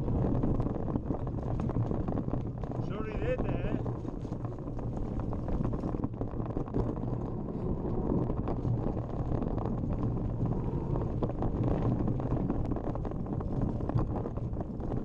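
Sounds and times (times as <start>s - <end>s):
bike rattling over ground: 0.0s - 15.0s
wind on microphone: 0.0s - 15.0s.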